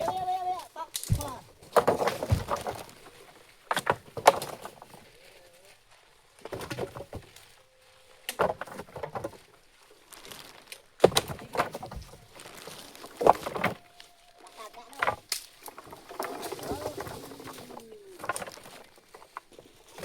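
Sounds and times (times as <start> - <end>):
logs knocking together: 0.0 - 5.3, 6.4 - 20.0.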